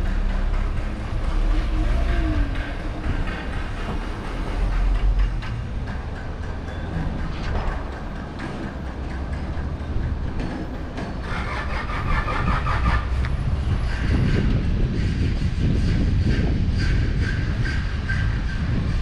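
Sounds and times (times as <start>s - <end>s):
low town rumble: 0.0s - 19.0s.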